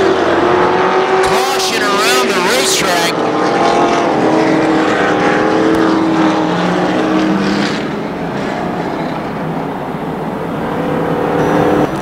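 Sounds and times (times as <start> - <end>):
race truck engines running: 0.0 - 12.0.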